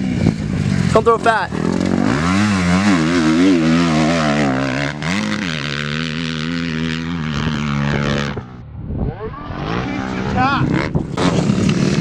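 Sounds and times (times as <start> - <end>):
dirt bike engine revving: 0.0 - 8.6, 9.2 - 12.0.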